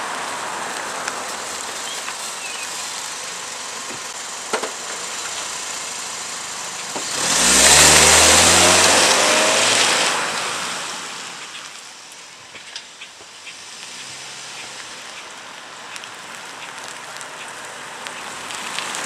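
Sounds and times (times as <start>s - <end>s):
car engine accelerating: 0.0s - 11.8s, 13.4s - 19.0s.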